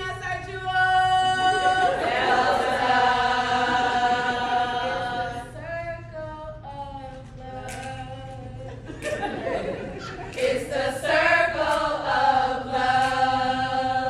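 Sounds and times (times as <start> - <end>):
women singing a chant in unison: 0.0 - 8.8, 10.4 - 14.0.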